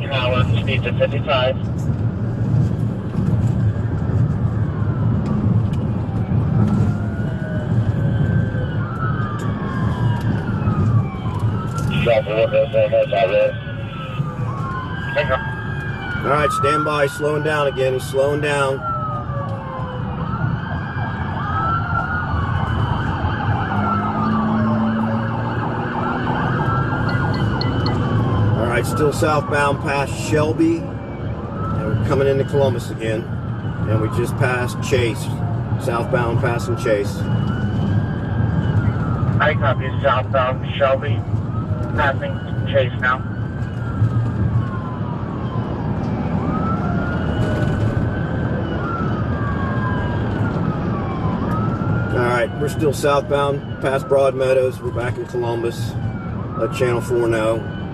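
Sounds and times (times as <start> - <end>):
engine and road rumble: 0.0 - 57.9
police siren wailing: 0.0 - 57.9.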